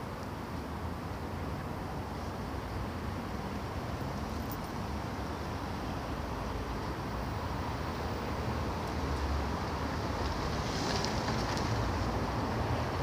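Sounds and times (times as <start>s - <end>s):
traffic rumbling across a bridge: 0.0s - 13.0s.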